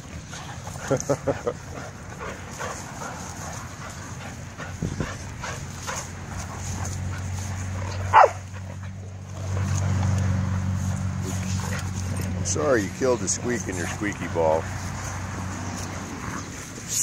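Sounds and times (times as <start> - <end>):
dogs playing: 0.0 - 17.0.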